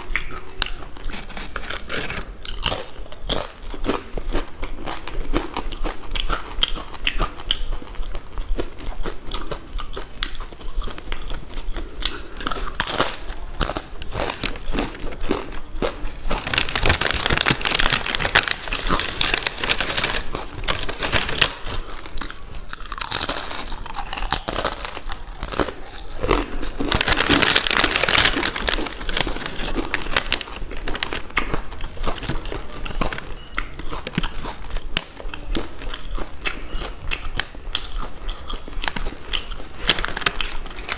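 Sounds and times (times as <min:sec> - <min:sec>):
potato chips crunching: 0:00.0 - 0:40.9.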